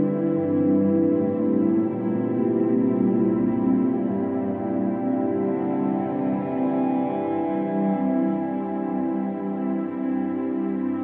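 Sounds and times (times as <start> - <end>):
music of long held chords: 0.0 - 11.0.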